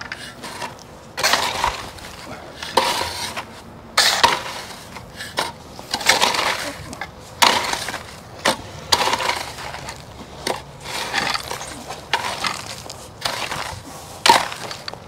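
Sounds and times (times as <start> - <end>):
shovel scraping stone dust: 0.0 - 15.0.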